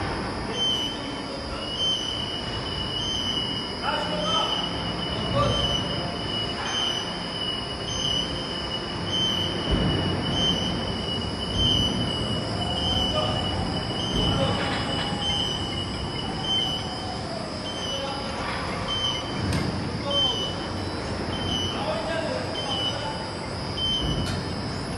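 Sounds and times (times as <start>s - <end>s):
constant high tone: 0.0s - 24.9s
crane wheels and drive rumbling: 4.7s - 24.9s.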